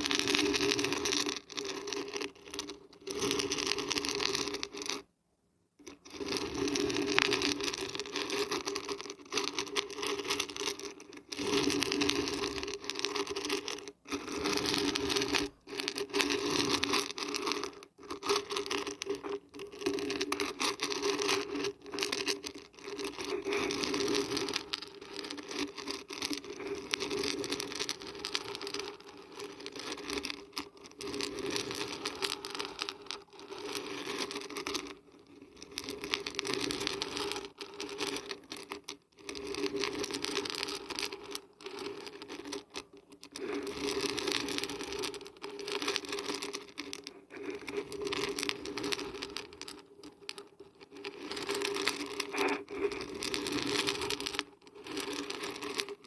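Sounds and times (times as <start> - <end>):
dried beans rattling when shaken: 0.0 - 5.1, 5.8 - 56.0.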